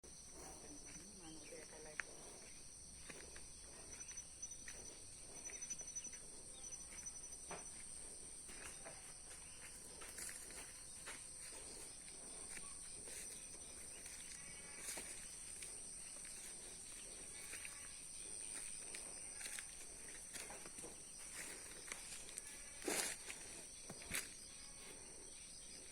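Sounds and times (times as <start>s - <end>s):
insects droning: 0.0s - 25.9s
rustles and clicks of vegetation: 0.0s - 25.9s
rapid pulsing insect trill: 0.1s - 25.9s.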